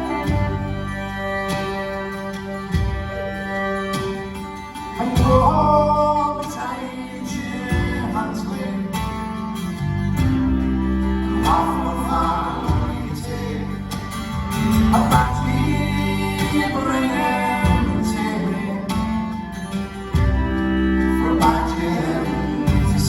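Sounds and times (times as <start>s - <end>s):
folk band playing a ballad: 0.0s - 23.0s.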